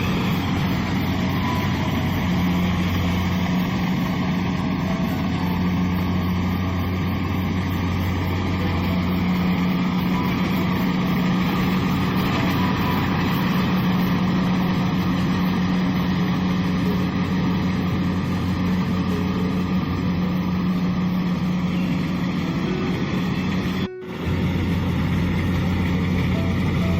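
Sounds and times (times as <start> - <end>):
combine harvester engine running: 0.0 - 26.9.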